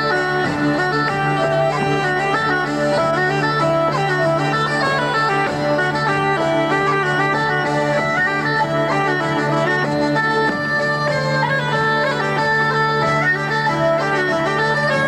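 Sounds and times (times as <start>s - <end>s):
bagpipes: 0.0s - 15.0s
button accordion: 0.0s - 15.0s
folk dance tune: 0.0s - 15.0s
hurdy-gurdy: 0.0s - 15.0s.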